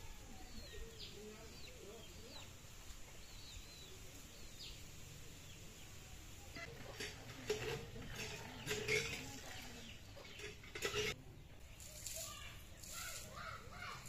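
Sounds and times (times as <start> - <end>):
birds chirping: 0.0 - 14.0
faint low background murmur: 0.0 - 14.0.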